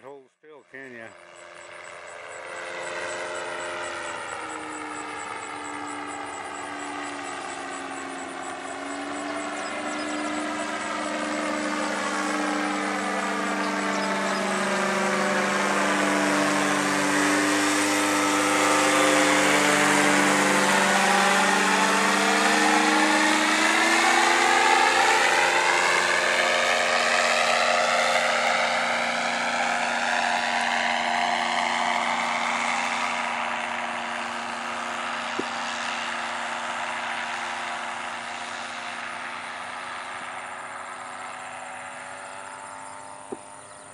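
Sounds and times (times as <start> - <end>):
aircraft engine and propeller droning: 0.0 - 43.9.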